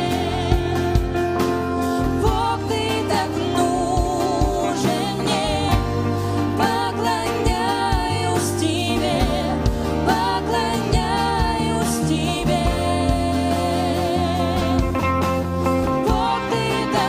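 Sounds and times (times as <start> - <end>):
person singing: 0.0 - 1.1, 2.0 - 15.0, 16.0 - 17.0
bass notes: 0.0 - 17.0.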